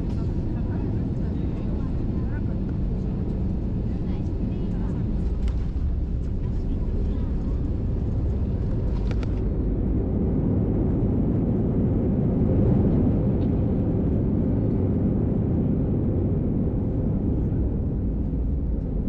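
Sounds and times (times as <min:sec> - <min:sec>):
jet engine roar in cabin: 0:00.0 - 0:19.0.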